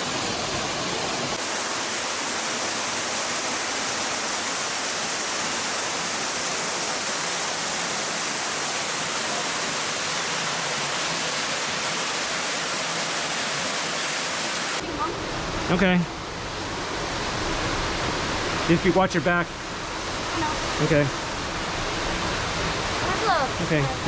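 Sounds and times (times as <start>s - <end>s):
waterfall rushing into rock grotto: 0.0s - 24.0s.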